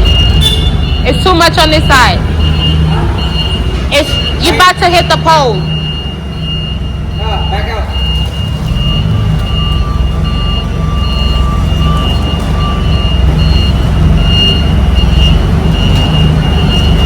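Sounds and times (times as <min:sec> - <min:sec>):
back-up alarm beeping: 0:00.0 - 0:17.0
truck diesel engine running: 0:00.0 - 0:17.0.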